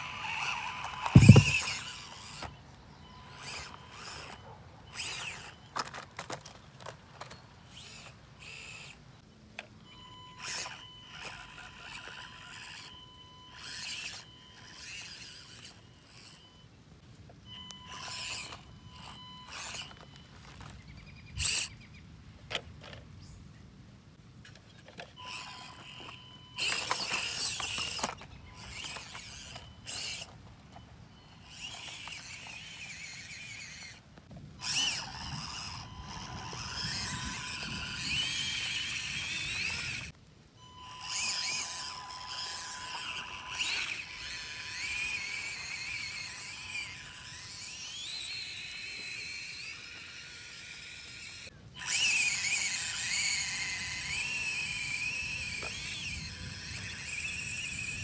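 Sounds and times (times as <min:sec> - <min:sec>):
small electric motor whining: 0:00.0 - 0:09.1, 0:09.8 - 0:21.8, 0:25.0 - 0:58.0.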